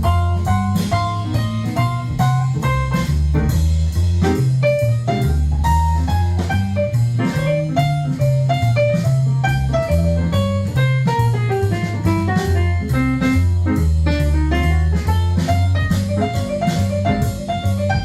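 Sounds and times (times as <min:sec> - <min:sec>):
instrumental jazz music: 0:00.0 - 0:18.0.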